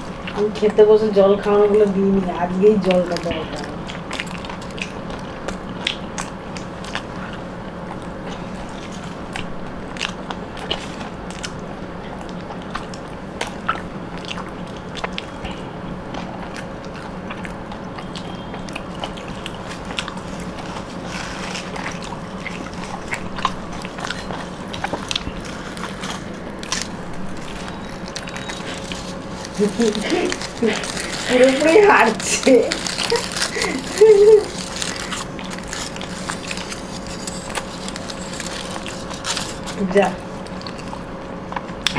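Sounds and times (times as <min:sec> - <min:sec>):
steady low hum: 0:00.0 - 0:41.9
mouth clicks and smacks chewing: 0:02.8 - 0:41.9.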